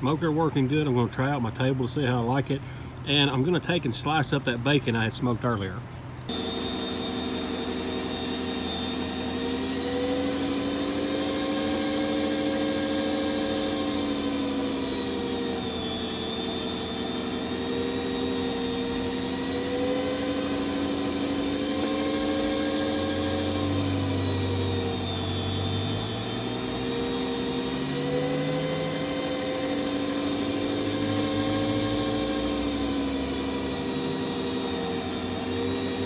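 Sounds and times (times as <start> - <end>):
electric meat slicer whirring: 6.3 - 36.0.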